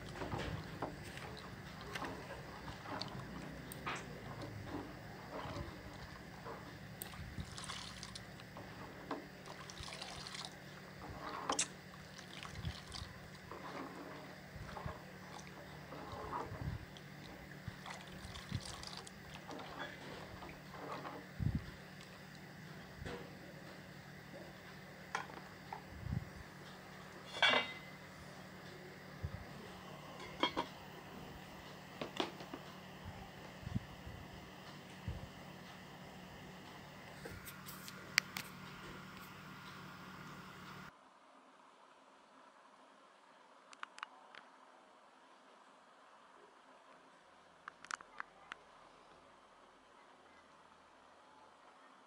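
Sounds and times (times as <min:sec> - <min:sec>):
low steady hum: 0:00.0 - 0:47.6.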